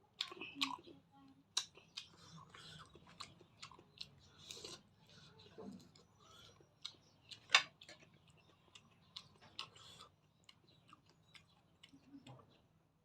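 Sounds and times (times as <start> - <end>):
chewing mouth sounds: 0.2 - 12.6.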